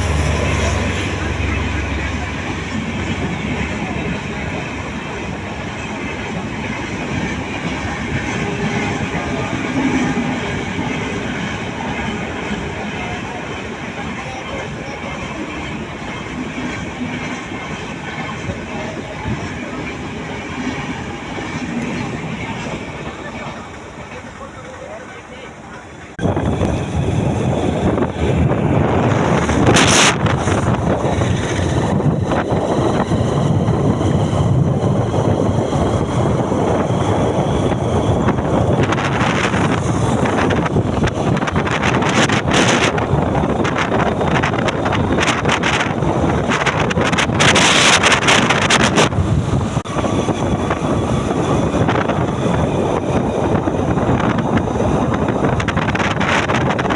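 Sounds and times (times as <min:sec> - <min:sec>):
wind buffeting microphone: 0:00.0 - 0:24.5, 0:26.1 - 0:56.9
train wheels rumbling on rails: 0:00.0 - 0:56.9.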